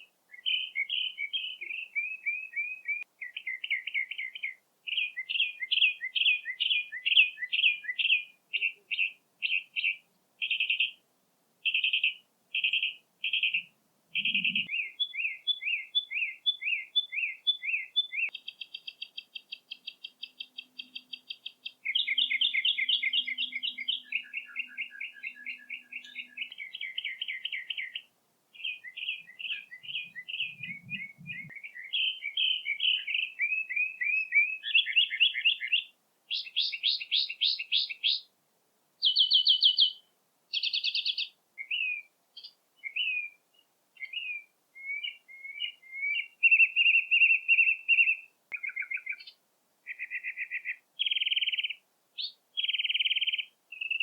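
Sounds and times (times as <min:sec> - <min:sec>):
songbird trilling and chirping: 0:00.3 - 0:11.0, 0:11.6 - 0:38.3, 0:39.0 - 0:54.0.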